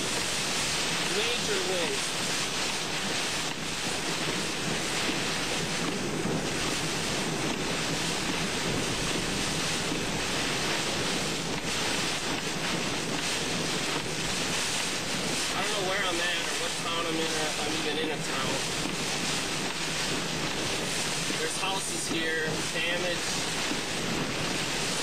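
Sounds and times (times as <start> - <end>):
rain lashing a car: 0.0 - 25.0
strong wind rushing: 0.0 - 25.0.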